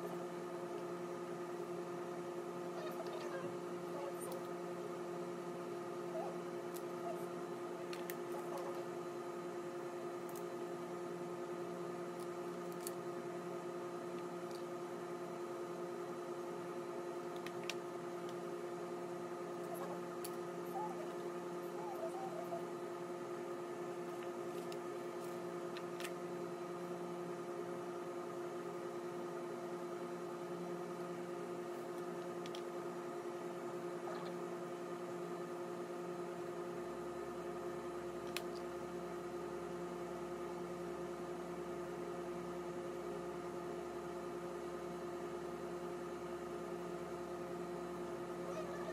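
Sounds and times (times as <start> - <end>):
electrical hum: 0.0 - 48.9.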